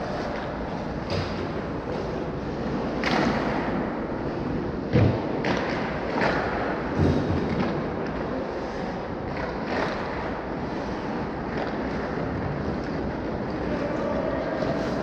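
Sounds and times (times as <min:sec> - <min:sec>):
ice rink noise: 0:00.0 - 0:15.0.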